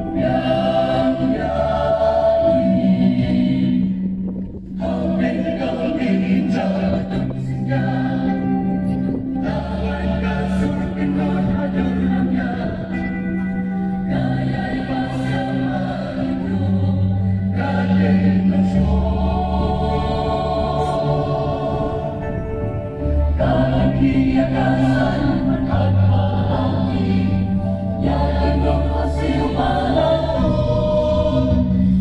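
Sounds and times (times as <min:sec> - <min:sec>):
church choir singing a hymn: 0:00.0 - 0:32.0.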